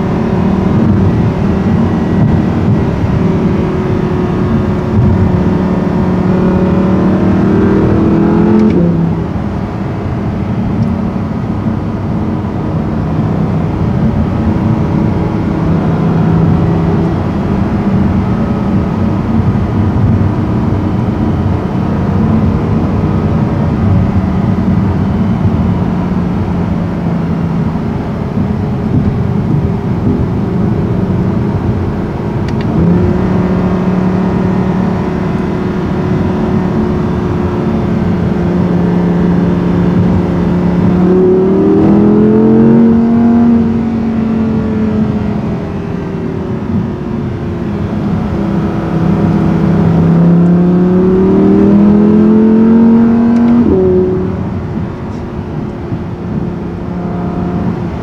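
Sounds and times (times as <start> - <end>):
car engine from inside cabin: 0.0 - 58.0
road noise: 0.0 - 58.0.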